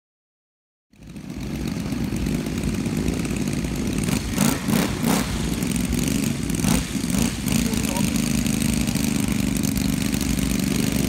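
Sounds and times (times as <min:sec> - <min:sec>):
model plane engine running: 0:00.9 - 0:11.0.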